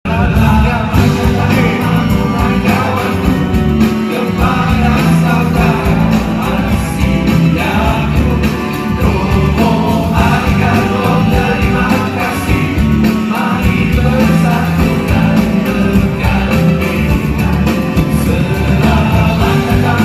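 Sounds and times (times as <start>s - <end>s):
band with strong bass: 0.1s - 20.0s
voices singing together: 0.1s - 20.0s.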